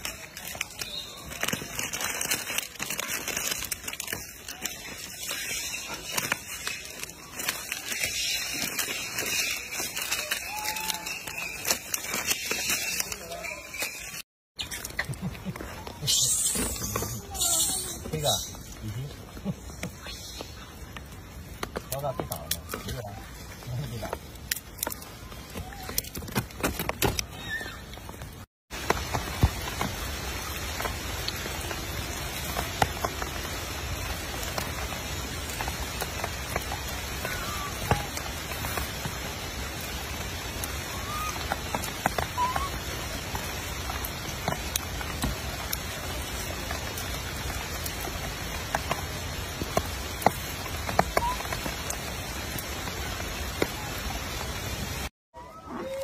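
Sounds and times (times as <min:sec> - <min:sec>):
light rain: 0:00.0 - 0:56.0.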